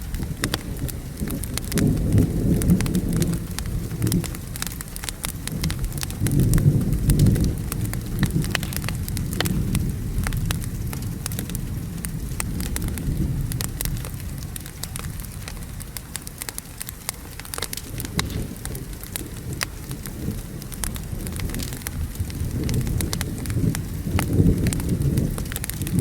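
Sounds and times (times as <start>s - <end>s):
low rumble of thunder: 0.0s - 26.0s
steady rain: 0.0s - 26.0s
wood fire crackling: 0.0s - 26.0s.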